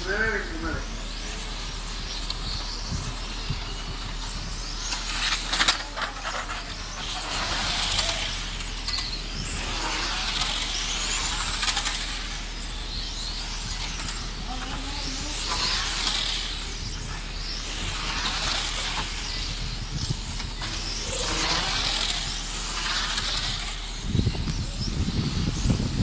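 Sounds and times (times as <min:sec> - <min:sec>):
toy car motors whining: 0:00.0 - 0:26.0.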